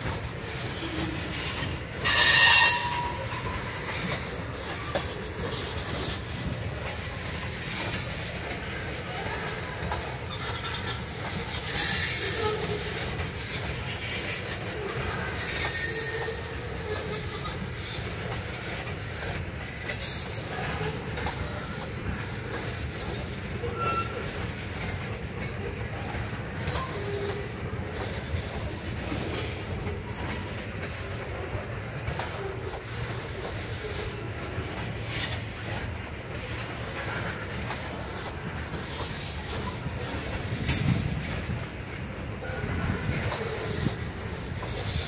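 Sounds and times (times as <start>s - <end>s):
freight train wheels rumbling on rails: 0.0s - 45.0s.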